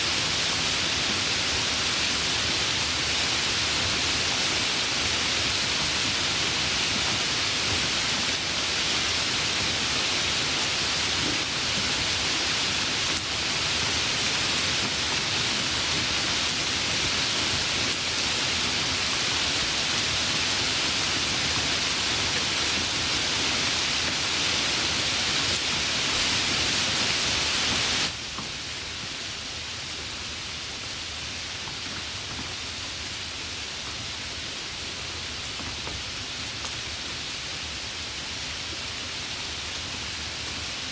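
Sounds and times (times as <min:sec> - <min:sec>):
light rain hissing: 0:00.0 - 0:40.9.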